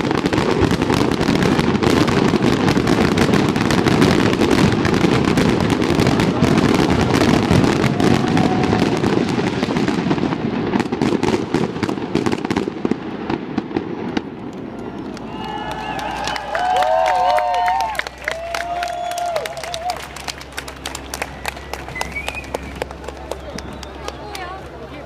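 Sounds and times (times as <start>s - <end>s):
continuous rumble: 0.0s - 25.0s
fireworks bangs and crackling: 0.0s - 25.0s.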